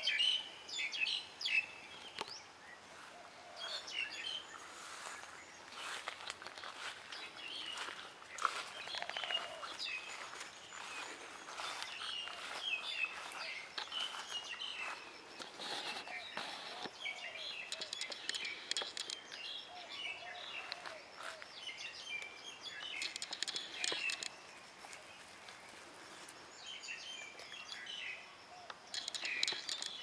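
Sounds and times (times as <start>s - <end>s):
birds chirping and singing: 0.0s - 30.0s.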